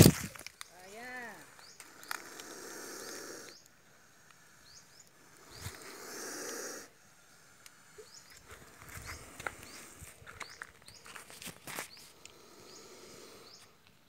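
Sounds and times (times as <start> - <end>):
snake hissing: 0.0 - 13.8.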